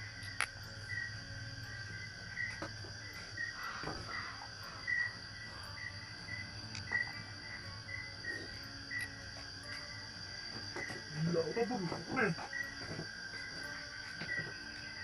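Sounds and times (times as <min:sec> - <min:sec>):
insect high trill: 0:00.0 - 0:15.0
insect short chirps: 0:00.0 - 0:15.0.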